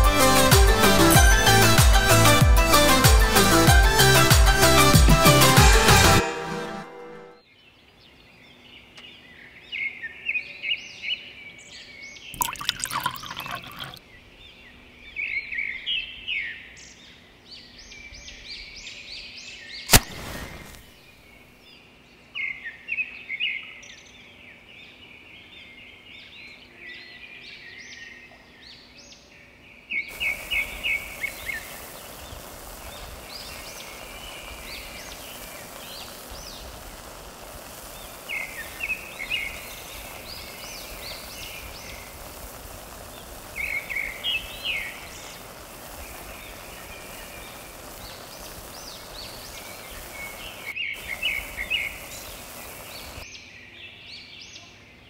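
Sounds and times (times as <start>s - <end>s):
steady background hiss: 7.4s - 55.0s.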